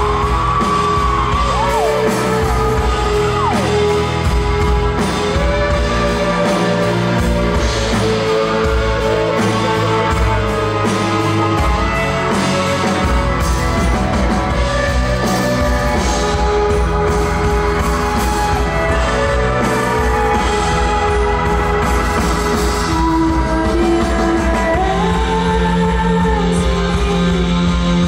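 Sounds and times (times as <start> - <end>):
live band playing slow rock: 0.0 - 28.0.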